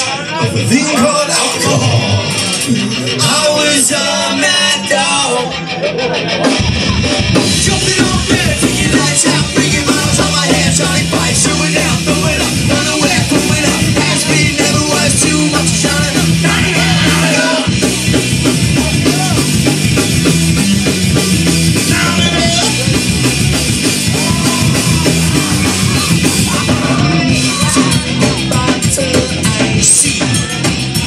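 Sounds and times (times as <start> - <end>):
punk rock band playing live: 0.0 - 31.0.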